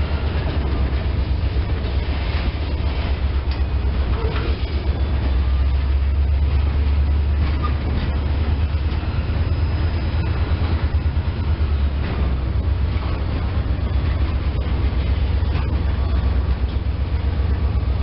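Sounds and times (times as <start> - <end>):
freight train rolling past: 0.0 - 18.0
wheels on rail: 0.0 - 18.0.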